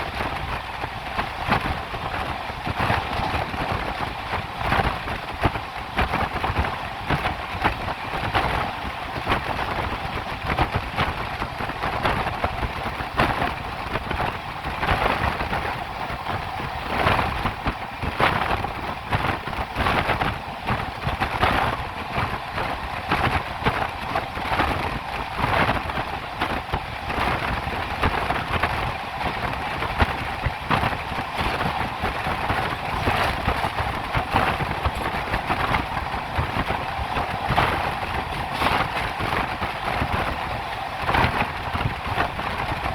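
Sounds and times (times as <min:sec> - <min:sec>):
train wheels rumbling on rail: 0:00.0 - 0:42.9
wheels clicking over rail joints: 0:00.0 - 0:42.9.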